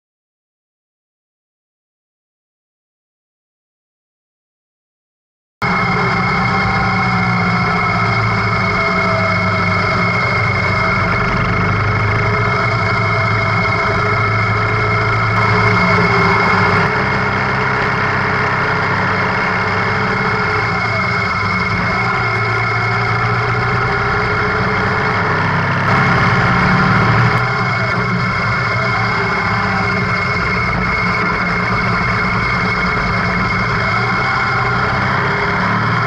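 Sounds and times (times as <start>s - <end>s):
motorcycle engine running: 5.6s - 36.0s.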